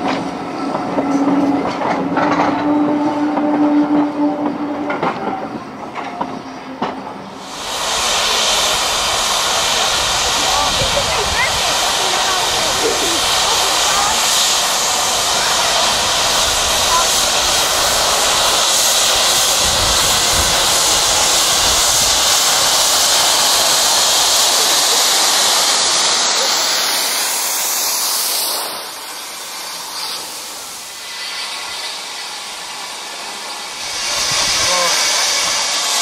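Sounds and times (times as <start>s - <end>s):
steam locomotive hissing steam: 0.0s - 36.0s.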